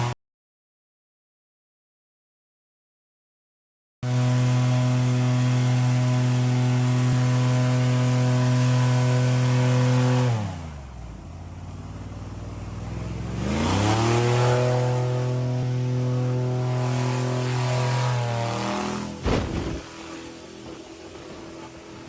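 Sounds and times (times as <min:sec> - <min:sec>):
engine revving: 0:04.0 - 0:22.0.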